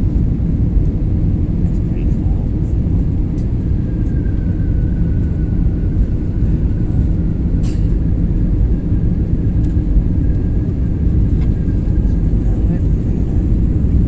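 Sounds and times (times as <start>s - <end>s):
engine and airflow rumble: 0.0s - 14.0s
faint whine: 0.0s - 14.0s.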